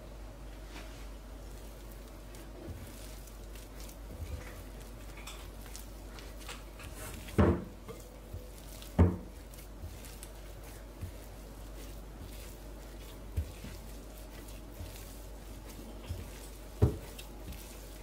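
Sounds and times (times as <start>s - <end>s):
hand kneading dough in bowl: 0.0s - 18.0s.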